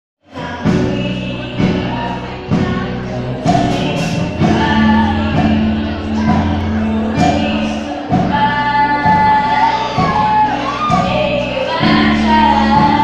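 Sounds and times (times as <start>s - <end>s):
children's choir singing gospel: 0.2s - 13.0s
instrumental accompaniment: 0.4s - 13.0s.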